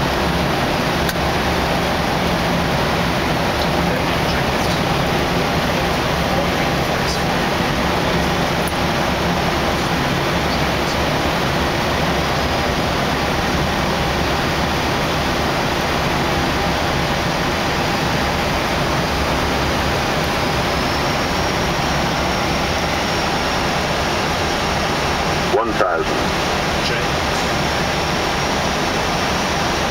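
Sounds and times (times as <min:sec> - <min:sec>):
hum of engines: 0:00.0 - 0:29.9.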